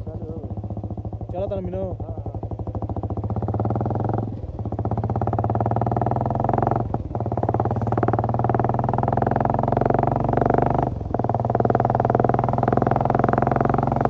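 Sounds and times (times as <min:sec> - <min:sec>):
motorcycle engine exhaust pulses: 0:00.0 - 0:14.0.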